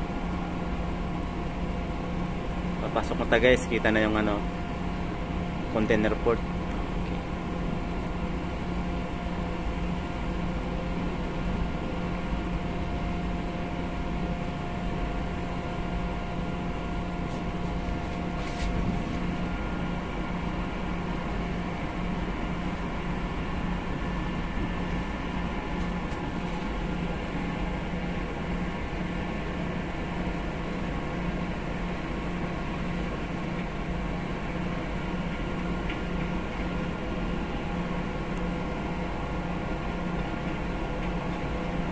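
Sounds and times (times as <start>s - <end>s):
ship engine drone: 0.0s - 41.9s.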